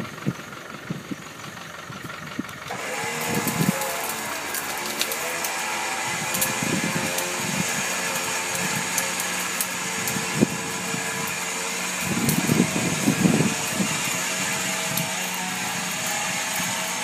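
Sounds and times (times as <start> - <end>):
motor hum: 0.0 - 17.0
twigs cracking: 2.5 - 17.0
branches scraping on grass: 2.7 - 17.0.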